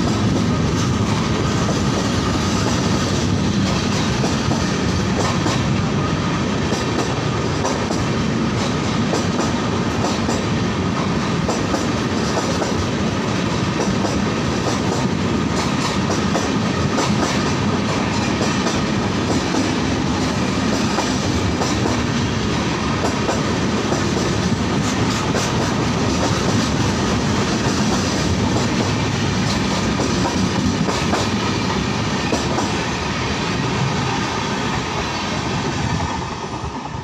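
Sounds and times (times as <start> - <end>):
train coaches rushing past: 0.0 - 37.0.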